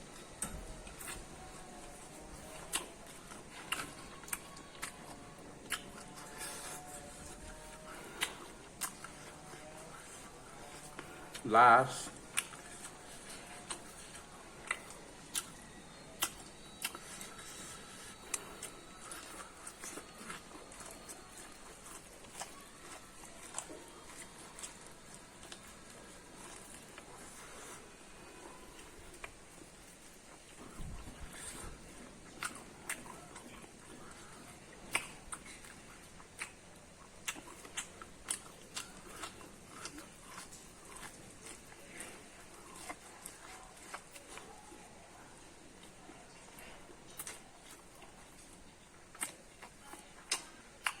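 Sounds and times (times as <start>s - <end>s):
person chewing corn: 0.0s - 51.0s.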